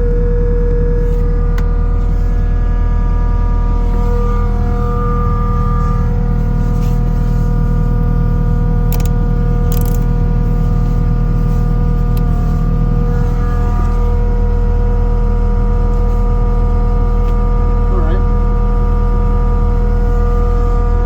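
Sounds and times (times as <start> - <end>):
diesel loader engine running: 0.0 - 21.0.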